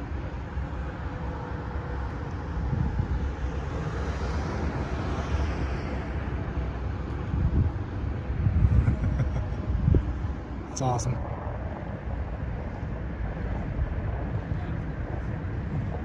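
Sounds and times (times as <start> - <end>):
freeway traffic noise: 0.0 - 16.0
wind rumbling on microphone: 0.0 - 16.0.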